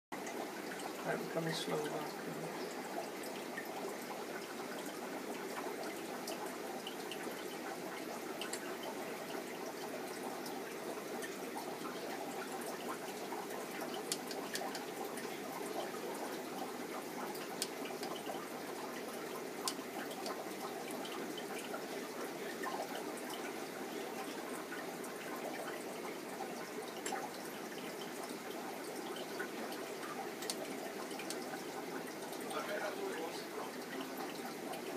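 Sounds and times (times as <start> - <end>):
drip-like ticks: 0.2 - 34.9
water trickling in fish tank: 0.2 - 34.9.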